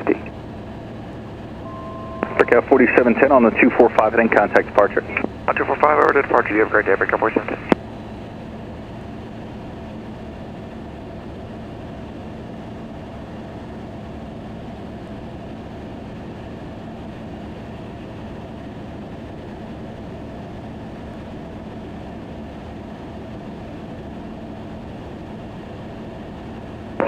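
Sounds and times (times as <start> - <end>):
aircraft engine and propeller drone: 0.0 - 27.0.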